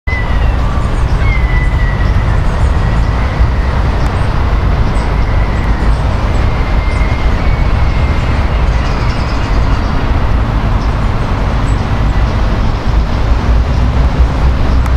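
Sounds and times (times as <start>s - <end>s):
low rumble of road traffic: 0.1s - 14.9s.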